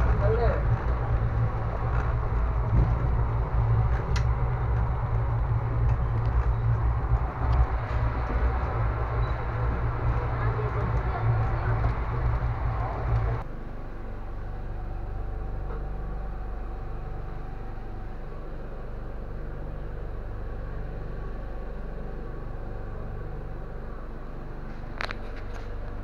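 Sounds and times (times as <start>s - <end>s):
train coach rumble and hum: 0.0s - 26.0s.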